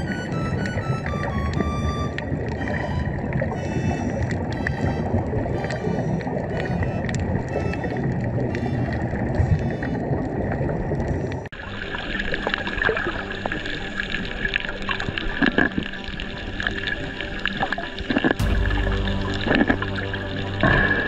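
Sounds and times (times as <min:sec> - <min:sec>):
underwater rush of water: 0:00.0 - 0:21.0.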